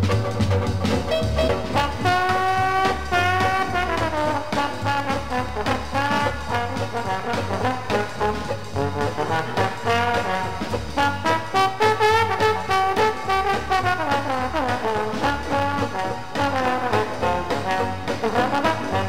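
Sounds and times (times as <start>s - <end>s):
banjo and percussion music: 0.0s - 19.0s.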